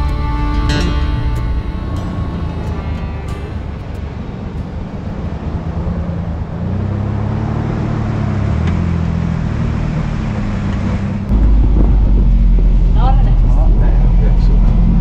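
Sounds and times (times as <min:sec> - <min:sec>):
deep low rumble: 0:00.0 - 0:15.0
jeep engine running: 0:00.0 - 0:15.0.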